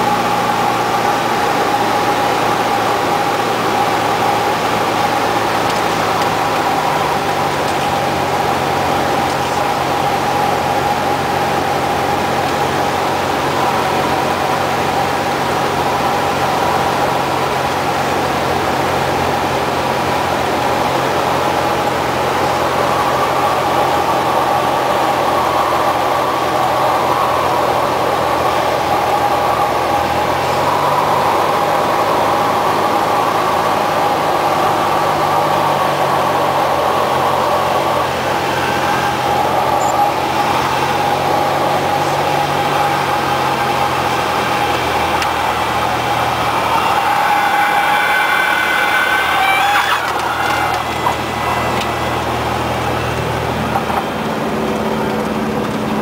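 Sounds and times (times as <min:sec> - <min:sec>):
light aircraft engine drone: 0:00.0 - 0:56.0.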